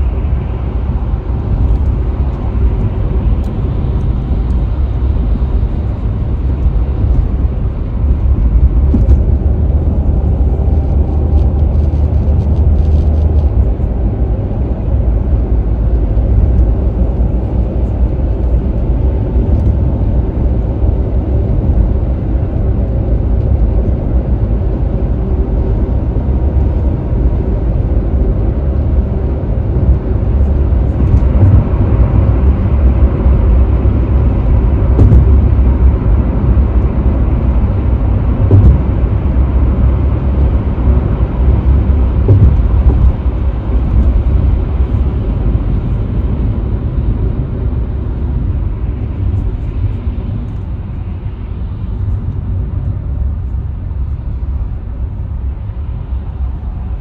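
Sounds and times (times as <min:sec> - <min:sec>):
road and tyre rumble: 0:00.0 - 0:57.0
wind noise: 0:00.0 - 0:57.0.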